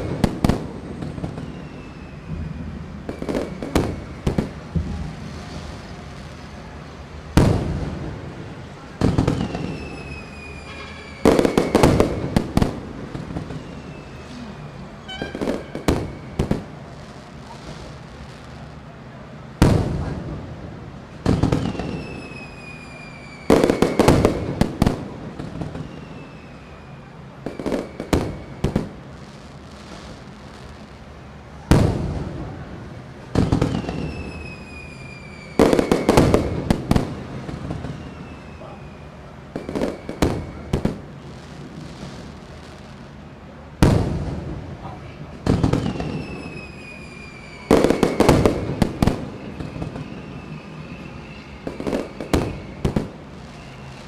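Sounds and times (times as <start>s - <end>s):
falling firework whistles: 0.0s - 18.8s, 21.2s - 43.1s, 45.4s - 54.0s
fireworks bangs and crackles: 0.0s - 54.0s.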